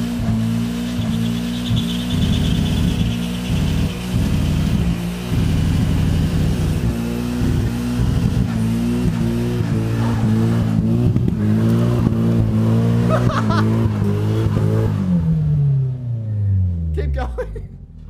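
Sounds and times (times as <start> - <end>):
car engine revving hard: 0.0 - 16.1.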